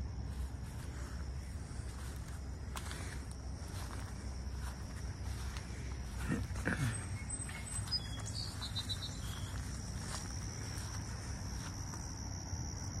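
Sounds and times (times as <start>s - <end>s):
high-pitched insect chorus: 0.0s - 13.0s
higher insect chirps: 0.0s - 13.0s.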